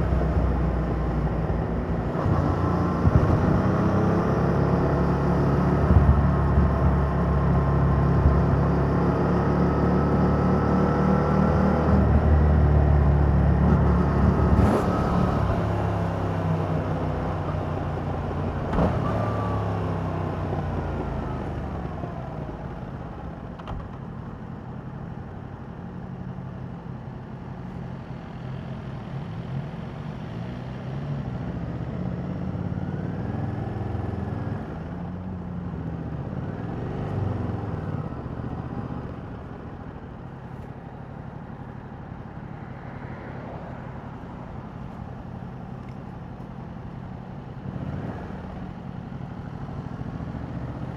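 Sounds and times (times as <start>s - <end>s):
motorcycle engine at low revs: 0.0s - 42.7s, 43.8s - 50.9s.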